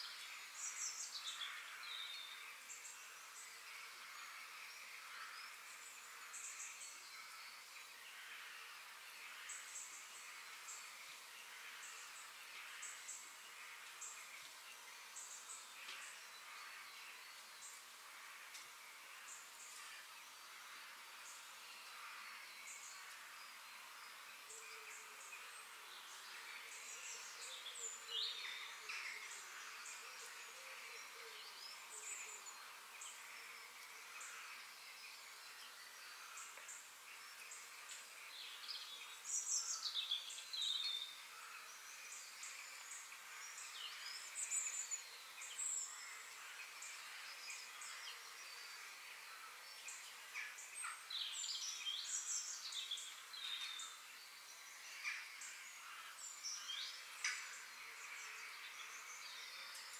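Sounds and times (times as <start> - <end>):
faint even hiss: 0.0 - 59.9
small birds singing: 0.0 - 59.9.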